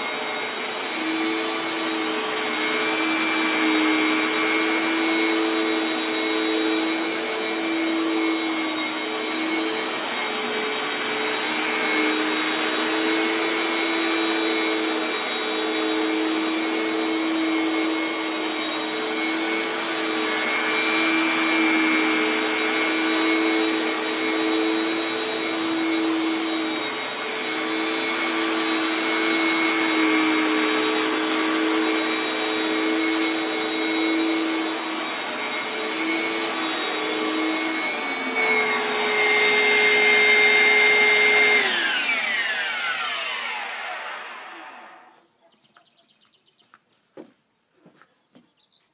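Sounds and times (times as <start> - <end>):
carpet washer motor hum: 0.0 - 45.1.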